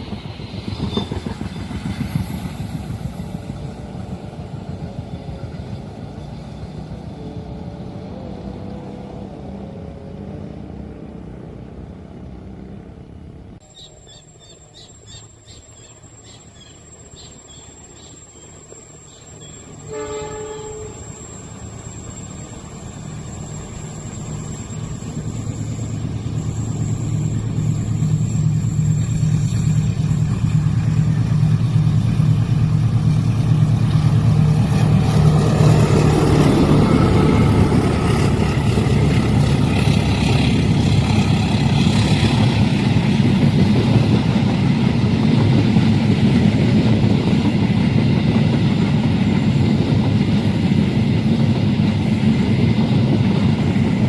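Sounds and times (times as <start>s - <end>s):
diesel locomotive engine hum: 0.0s - 54.0s
train rumbling past: 0.0s - 54.0s.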